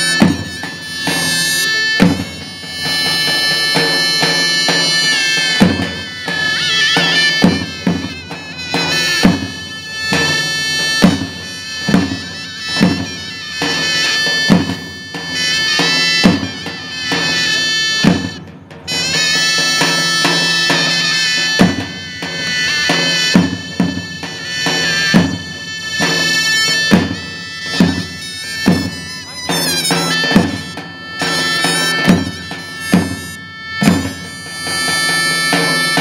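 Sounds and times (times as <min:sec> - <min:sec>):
heavy drum beat: 0:00.0 - 0:36.0
shawms playing a melody: 0:00.0 - 0:36.0.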